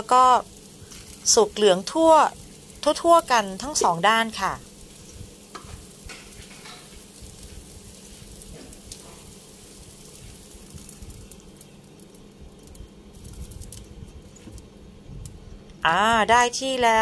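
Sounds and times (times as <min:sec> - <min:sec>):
omelette sizzling in a pan: 0:00.0 - 0:15.8
steady low hum: 0:00.0 - 0:17.0.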